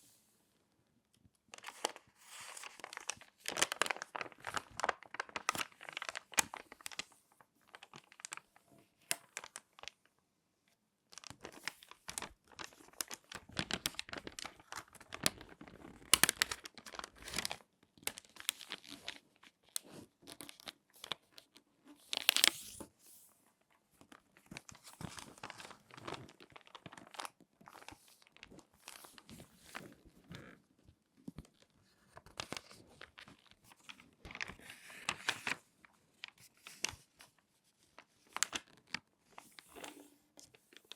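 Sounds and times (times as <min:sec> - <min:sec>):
magazine paper crinkling: 0:01.5 - 0:10.0, 0:11.1 - 0:21.2, 0:22.0 - 0:22.8, 0:24.1 - 0:30.5, 0:31.5 - 0:40.9.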